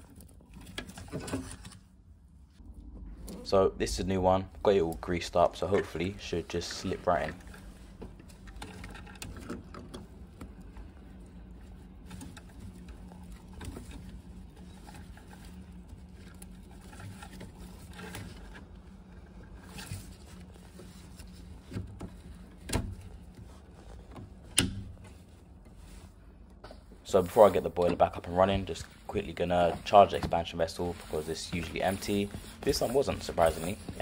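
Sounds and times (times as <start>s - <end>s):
steady low hum: 0.0s - 34.0s
faint handling noises: 2.6s - 34.0s.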